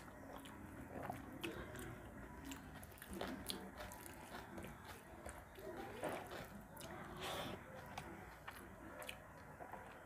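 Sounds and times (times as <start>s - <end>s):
man chewing food: 0.0s - 10.0s.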